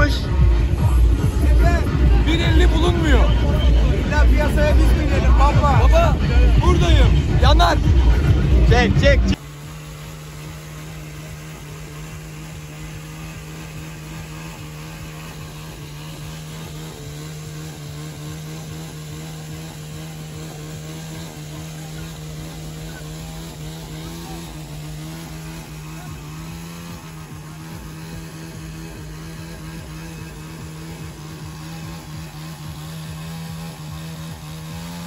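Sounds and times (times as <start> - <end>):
engine droning steadily: 0.0 - 35.0.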